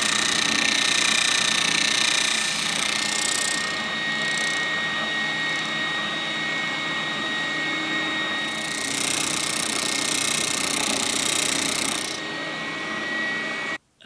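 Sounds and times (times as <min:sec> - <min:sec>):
spindle sander whining: 0:00.0 - 0:13.8.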